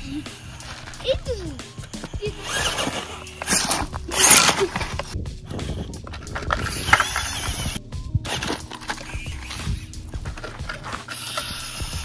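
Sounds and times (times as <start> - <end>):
toy car clicking and scraping on rock: 0.0 - 12.0.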